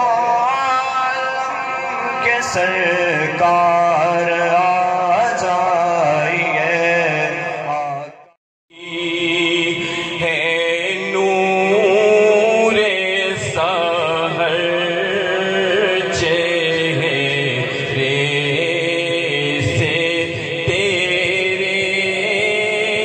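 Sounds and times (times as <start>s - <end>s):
man chanting through loudspeakers: 0.0s - 23.0s
man chanting with held notes: 0.0s - 23.0s.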